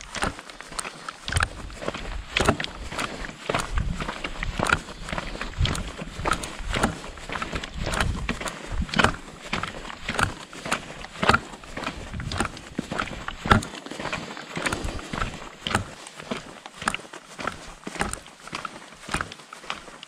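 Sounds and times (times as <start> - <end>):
footsteps crunching on gravel: 0.0 - 20.0.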